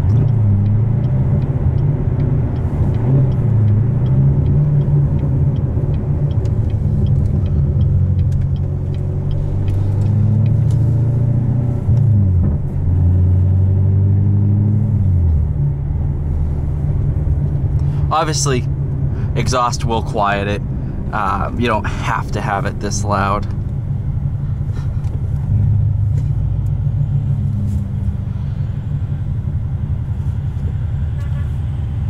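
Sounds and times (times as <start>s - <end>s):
car engine exhaust drone: 0.0s - 32.0s.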